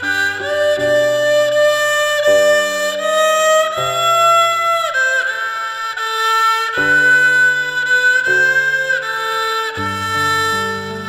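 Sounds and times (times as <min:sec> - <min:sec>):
slow melody of held notes: 0:00.0 - 0:11.0.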